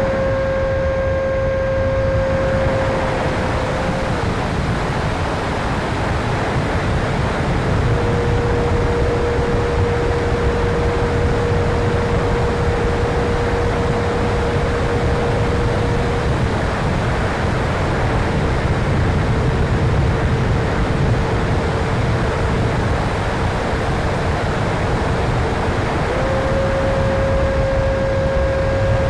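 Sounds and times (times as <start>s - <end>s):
model jet fan whine: 0.0s - 29.0s
wind on microphone: 0.0s - 29.0s.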